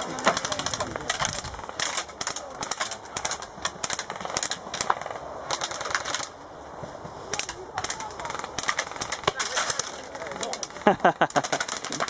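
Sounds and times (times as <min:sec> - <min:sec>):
airsoft rifles firing bursts: 0:00.0 - 0:06.4, 0:07.3 - 0:12.0.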